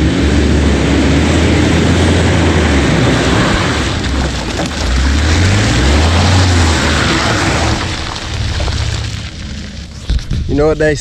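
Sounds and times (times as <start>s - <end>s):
truck engine revving: 0.0s - 10.1s
tyres churning mud: 0.0s - 11.0s.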